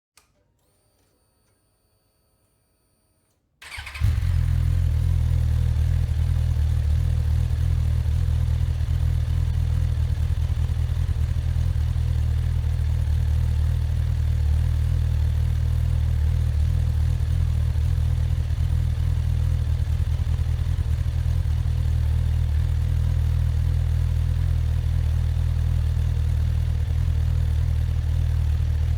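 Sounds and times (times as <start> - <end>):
motorcycle engine starting and idling: 3.6 - 28.9.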